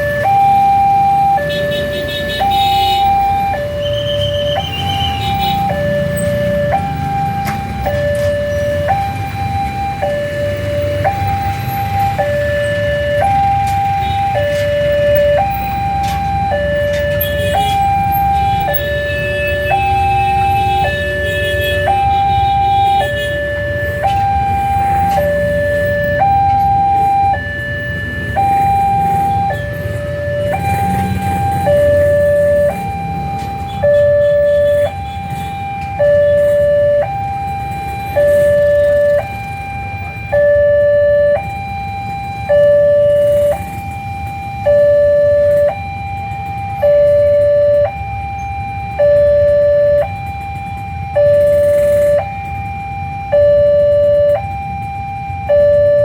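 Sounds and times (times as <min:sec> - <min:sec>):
two-tone level crossing siren: 0:00.0 - 0:56.0.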